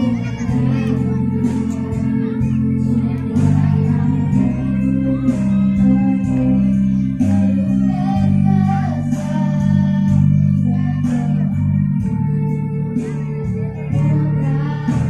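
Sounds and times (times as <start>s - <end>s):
guitar: 0.0s - 15.0s
heavy bass line: 0.0s - 15.0s.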